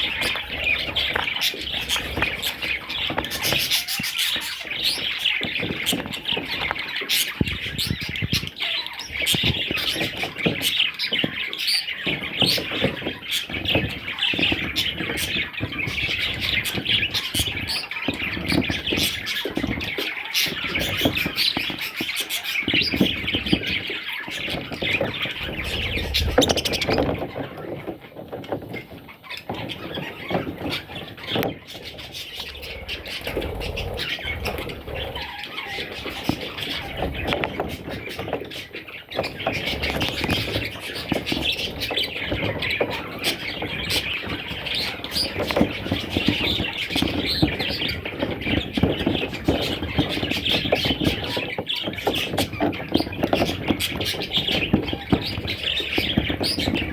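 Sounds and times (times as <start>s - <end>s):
budgerigar chicks chirping: 0.0s - 56.9s
small knocks and rustling: 0.0s - 56.9s.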